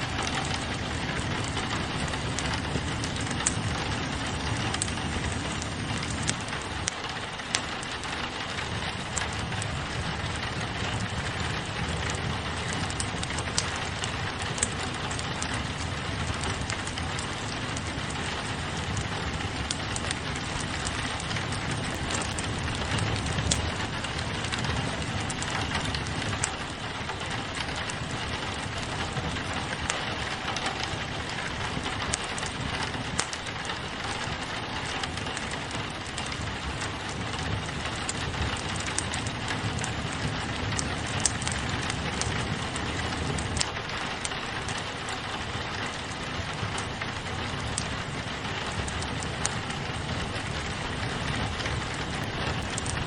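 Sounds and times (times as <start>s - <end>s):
fire popping: 0.0s - 53.0s
rain on a window: 0.0s - 53.0s
wood fire crackling: 0.0s - 53.0s.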